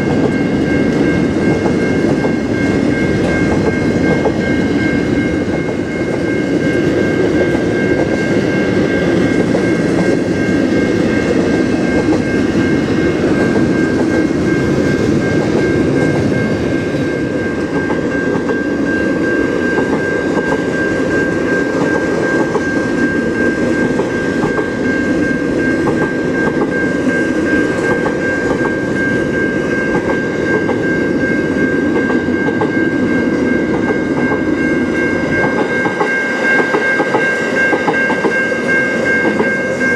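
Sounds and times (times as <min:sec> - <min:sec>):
train wheels clacking over rails: 0:00.0 - 0:39.8
steady high-pitched tone: 0:00.0 - 0:39.9.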